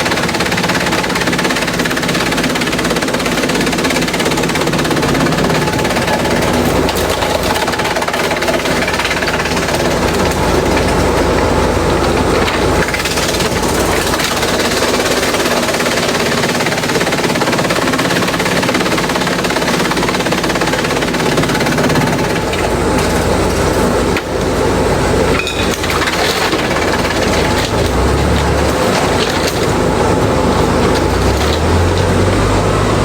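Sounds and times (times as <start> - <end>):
machine hum: 0.0 - 33.0
shredder grinding bamboo: 0.0 - 33.0.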